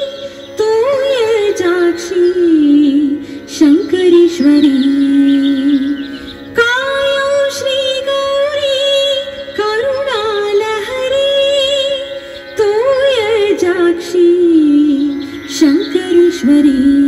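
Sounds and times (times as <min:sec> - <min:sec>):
faint steady drone: 0:00.0 - 0:17.0
woman singing classical melody: 0:00.0 - 0:17.0.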